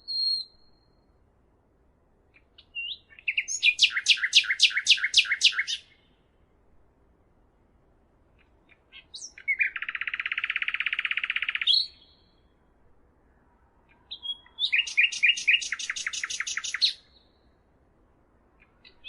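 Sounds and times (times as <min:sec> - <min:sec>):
songbird singing: 0:00.0 - 0:01.5, 0:02.2 - 0:06.6, 0:08.3 - 0:19.0.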